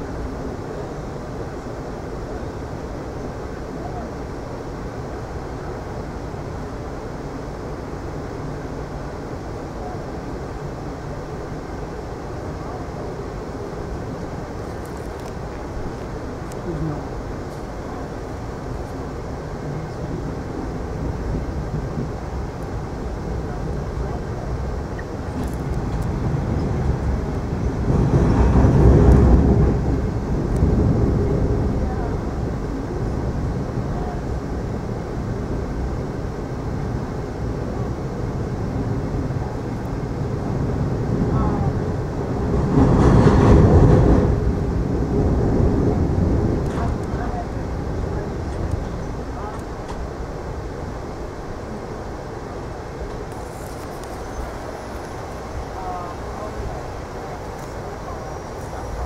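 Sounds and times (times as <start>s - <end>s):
train rumble from inside: 0.0s - 59.0s.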